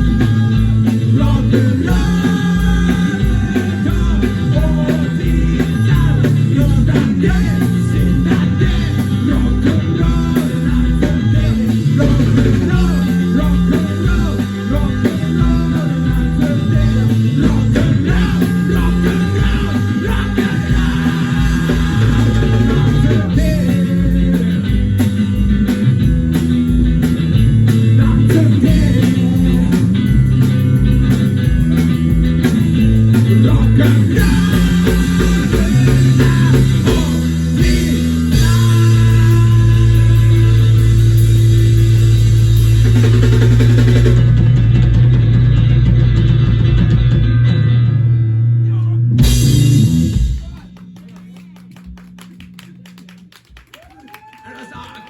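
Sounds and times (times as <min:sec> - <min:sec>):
drum kit beat: 0:00.0 - 0:47.5, 0:49.1 - 0:55.0
bass guitar: 0:00.0 - 0:55.0
electric guitar: 0:00.0 - 0:55.0.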